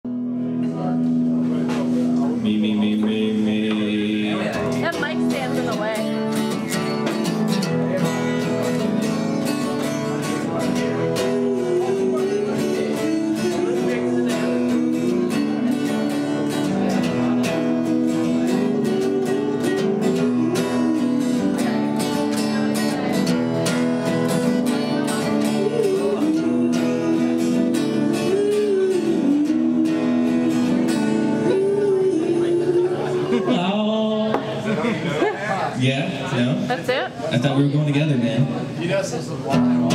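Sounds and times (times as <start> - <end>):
acoustic guitar strumming: 0.1 - 35.2, 35.8 - 39.9.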